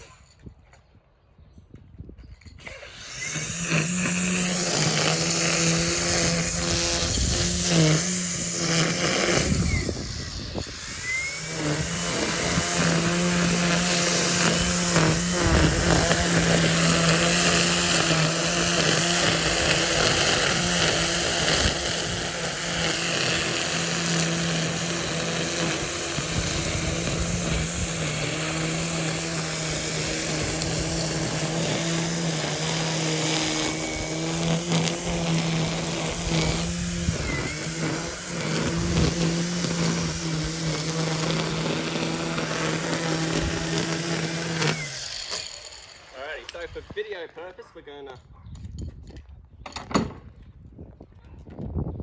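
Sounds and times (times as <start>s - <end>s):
string trimmer running: 2.6s - 47.5s.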